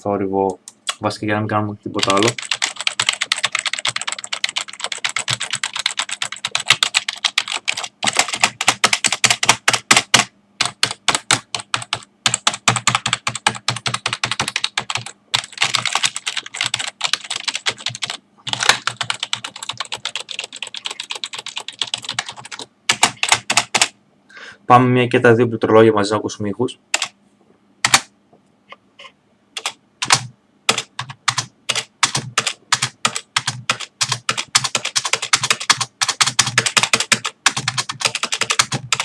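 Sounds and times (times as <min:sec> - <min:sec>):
fast typing on keyboard: 0:02.0 - 0:23.9, 0:27.8 - 0:28.1, 0:29.6 - 0:39.0.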